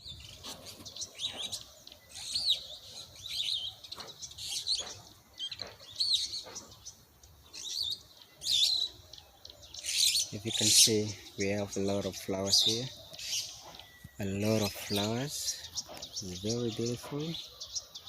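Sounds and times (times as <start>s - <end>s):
small bird chirping: 0.0s - 18.0s.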